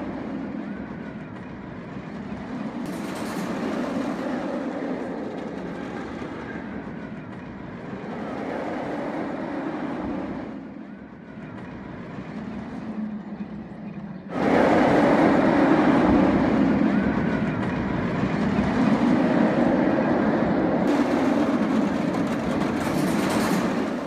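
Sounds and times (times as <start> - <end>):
roller coaster rumbling on track: 0.0 - 24.0.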